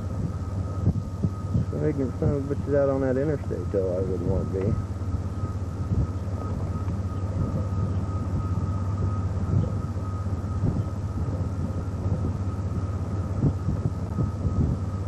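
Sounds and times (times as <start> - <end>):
thin steady high tone: 0.0 - 15.0
wind buffeting microphone: 0.0 - 15.0.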